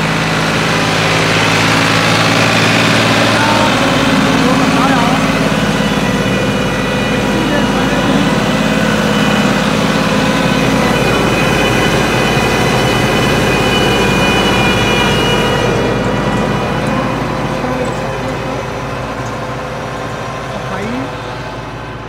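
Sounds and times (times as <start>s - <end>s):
steady high whine: 0.0s - 22.0s
tractor diesel engine under load: 0.0s - 22.0s.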